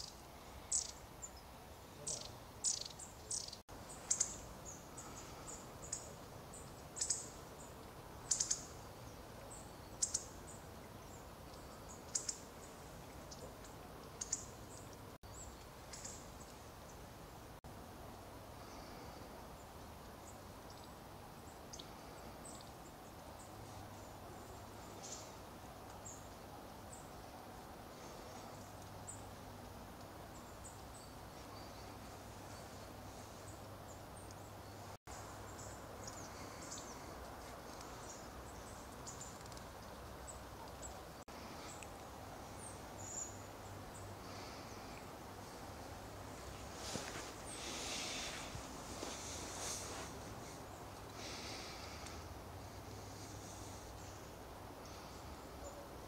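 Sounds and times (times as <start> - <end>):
low hiss and hum: 0.0 - 56.0
small birds chirping: 0.0 - 56.0.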